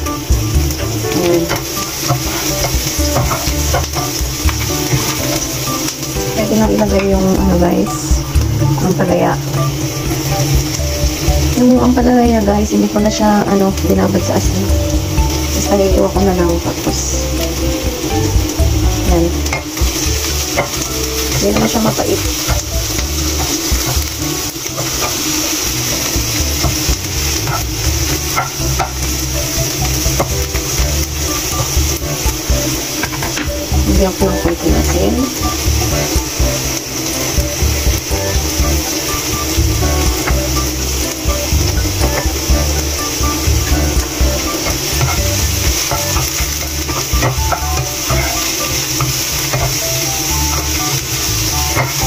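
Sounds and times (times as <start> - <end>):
vegetables sizzling in frying pan: 0.0 - 52.0
spatula scraping and tapping pan: 0.6 - 8.9, 17.4 - 52.0.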